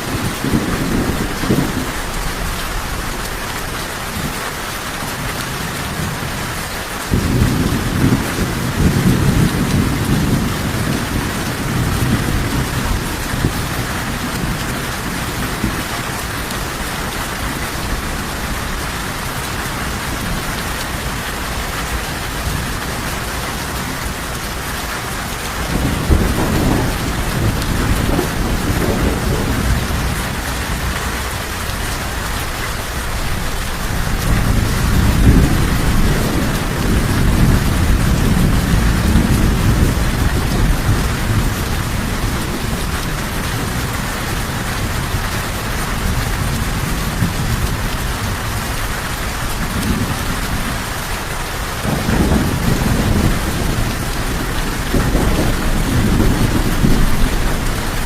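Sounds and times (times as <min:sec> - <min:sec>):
thunder rumbling: 0:00.0 - 0:04.5, 0:05.2 - 0:58.0
steady rain: 0:00.0 - 0:58.0.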